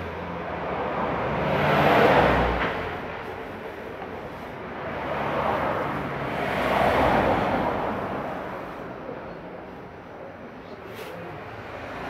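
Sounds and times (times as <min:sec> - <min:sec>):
broad rushing noise: 0:00.0 - 0:09.9.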